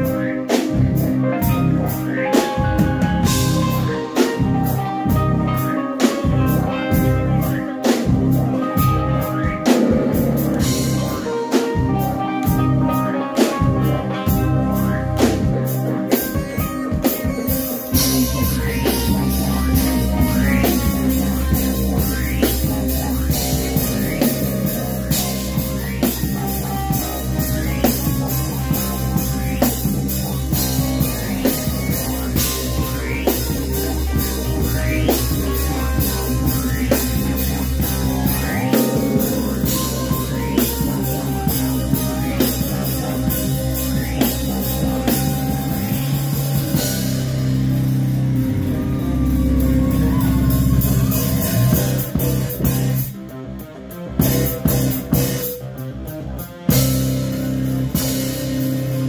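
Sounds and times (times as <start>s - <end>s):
bass guitar: 0.0s - 59.0s
drum kit beat: 0.0s - 59.0s
electric guitar: 0.0s - 59.0s.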